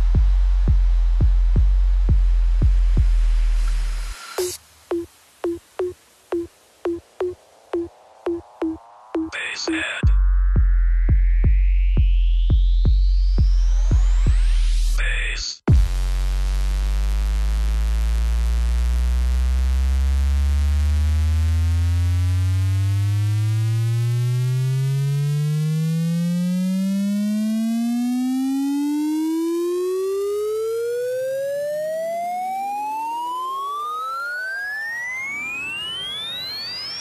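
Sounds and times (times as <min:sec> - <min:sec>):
synthesizer bass tone rising: 0:05.8 - 0:09.4, 0:10.0 - 0:15.0, 0:15.7 - 0:37.0.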